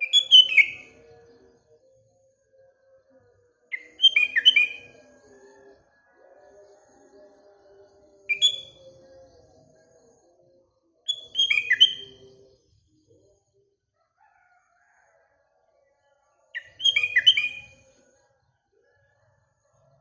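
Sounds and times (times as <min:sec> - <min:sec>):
bird singing: 0:00.0 - 0:13.7, 0:16.5 - 0:19.4.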